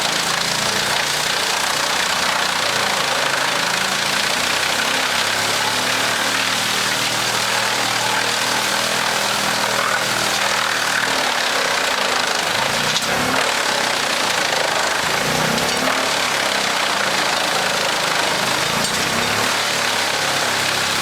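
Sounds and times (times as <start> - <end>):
engine hum: 0.0 - 21.0
wood chipper rushing noise: 0.0 - 21.0.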